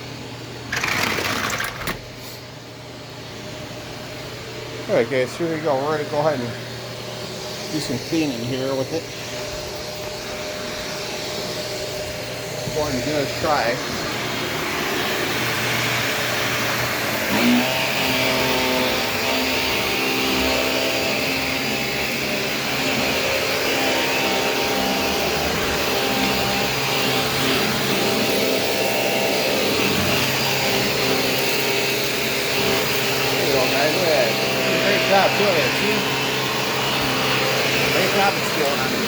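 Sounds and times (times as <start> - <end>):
vacuum cleaner motor hum: 0.0 - 2.5, 5.6 - 39.0.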